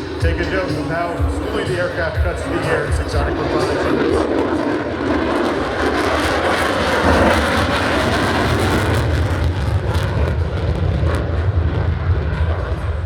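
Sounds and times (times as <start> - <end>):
jet roar in afterburner: 0.0 - 13.0.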